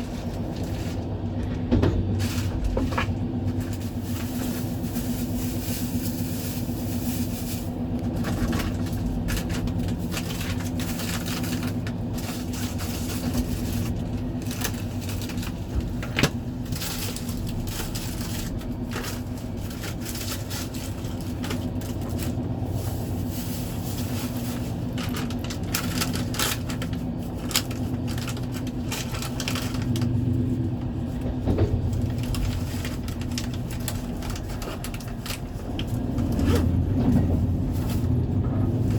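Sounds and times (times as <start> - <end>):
train rumble and hum: 0.0 - 38.9
wheels rattling and clicking: 0.0 - 38.9.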